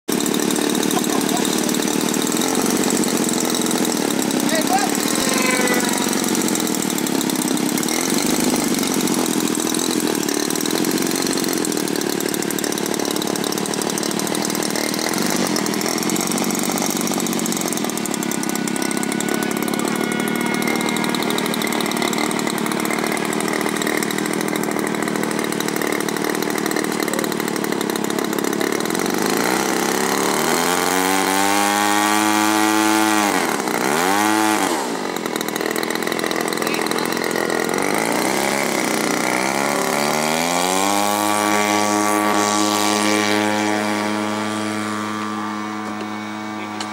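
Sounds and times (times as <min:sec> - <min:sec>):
model plane propeller engine: 0:00.1 - 0:46.9.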